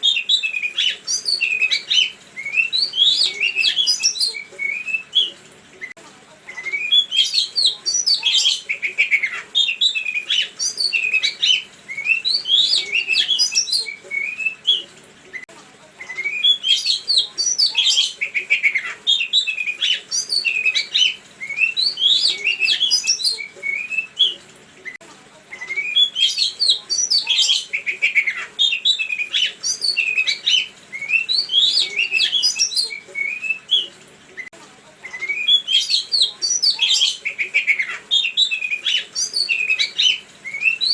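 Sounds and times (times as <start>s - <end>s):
songbird singing: 0.0s - 5.4s, 6.6s - 14.9s, 16.1s - 24.4s, 25.6s - 40.9s.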